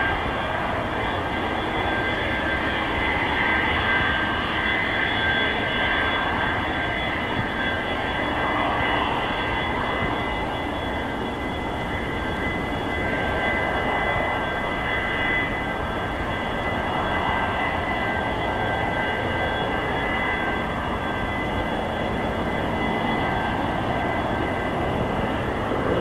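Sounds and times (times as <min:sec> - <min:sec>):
high engine whine: 0:00.0 - 0:26.0
jet engines running: 0:00.0 - 0:26.0.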